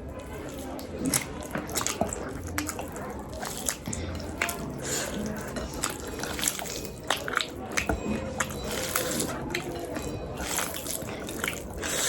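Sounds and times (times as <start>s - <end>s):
wet chewing and mouth sounds: 0.0s - 12.0s.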